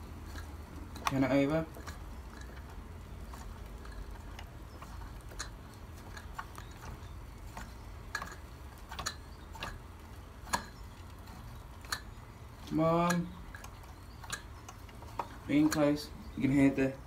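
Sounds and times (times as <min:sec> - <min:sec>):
toy steam engine ticks and puffs: 0:00.0 - 0:16.2
low steady hum: 0:00.0 - 0:17.0.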